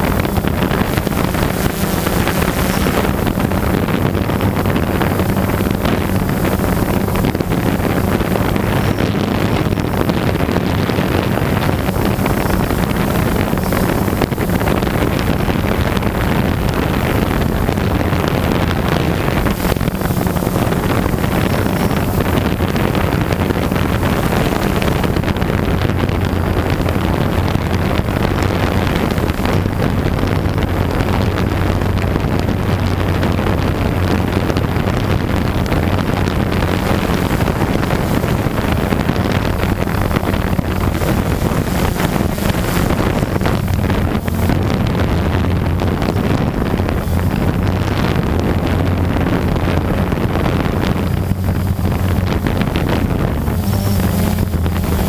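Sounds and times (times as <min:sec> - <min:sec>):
drone propellers buzzing: 0:00.0 - 0:55.0
wind on microphone: 0:00.0 - 0:55.0.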